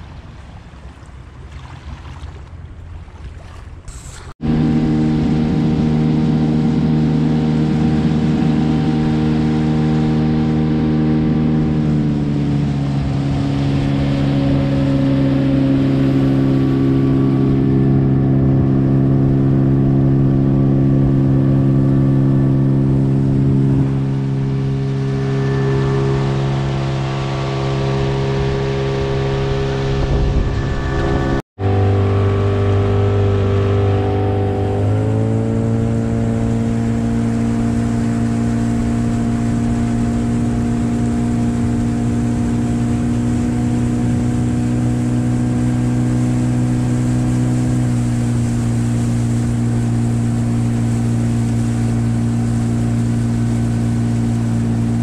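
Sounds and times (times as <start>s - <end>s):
outboard motor running: 0.8s - 55.0s.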